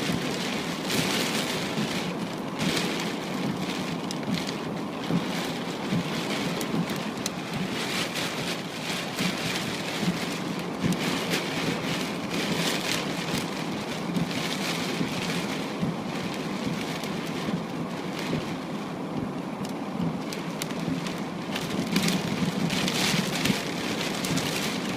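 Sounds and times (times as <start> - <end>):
raindrops ticking on a surface: 0.0 - 24.9
steady rain falling: 0.0 - 24.9.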